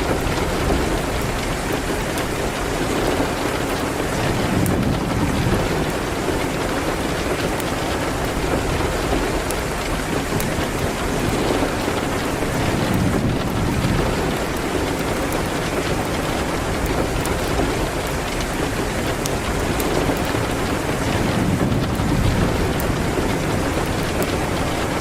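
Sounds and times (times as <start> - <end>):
heavy rain falling: 0.0 - 25.0
sharp ticks and crackles: 0.0 - 25.0.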